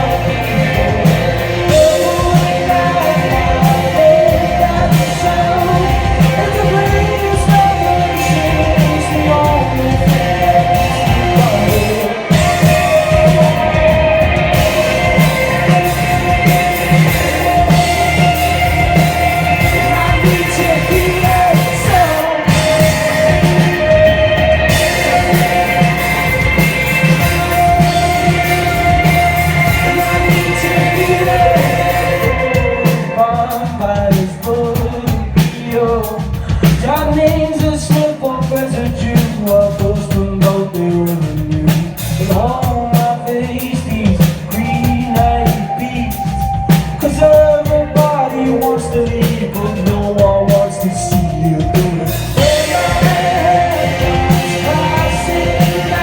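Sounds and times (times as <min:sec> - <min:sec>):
drum beat: 0:00.0 - 0:56.0
electric guitars: 0:00.0 - 0:56.0
live rock band playing: 0:00.0 - 0:56.0
man singing: 0:00.0 - 0:56.0.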